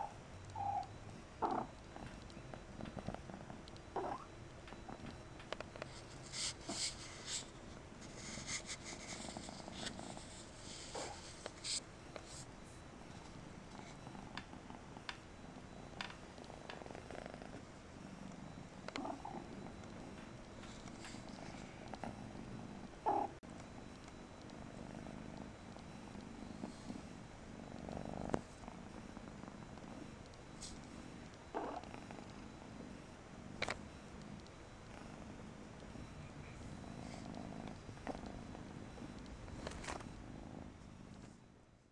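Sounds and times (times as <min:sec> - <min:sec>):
kitten purring: 0:00.0 - 0:05.2, 0:05.8 - 0:11.8, 0:13.4 - 0:41.4.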